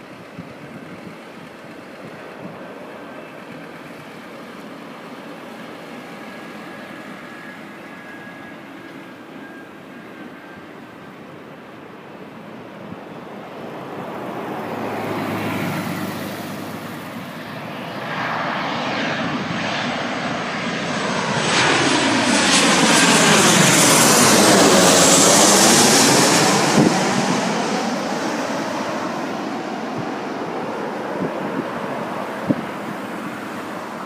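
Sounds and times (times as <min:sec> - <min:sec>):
jet airliner flying overhead: 0:00.0 - 0:34.0.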